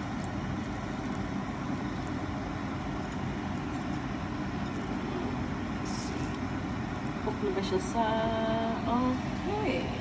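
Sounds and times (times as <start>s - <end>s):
low rumbling background noise: 0.0s - 10.0s.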